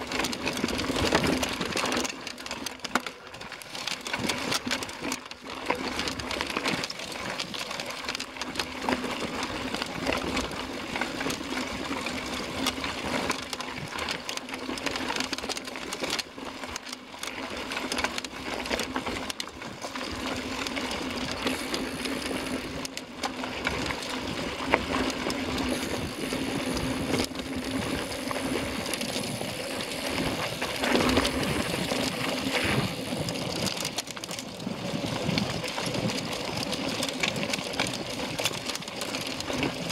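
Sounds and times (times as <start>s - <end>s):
bike rattling over stones: 0.0s - 39.9s.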